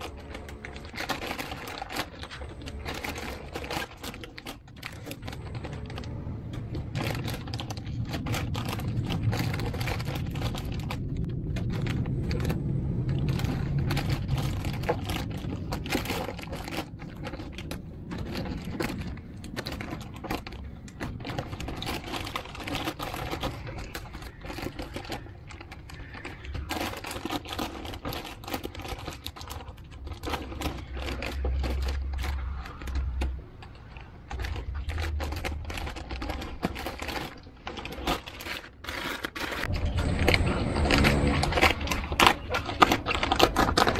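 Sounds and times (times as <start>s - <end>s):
low rumble: 0.0s - 38.5s, 39.6s - 43.9s
plastic bag crinkling: 0.0s - 43.9s.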